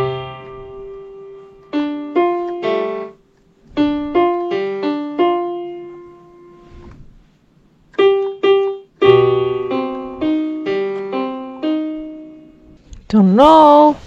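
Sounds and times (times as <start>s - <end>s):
keyboard notes and chords: 0.0s - 7.0s, 7.9s - 12.8s.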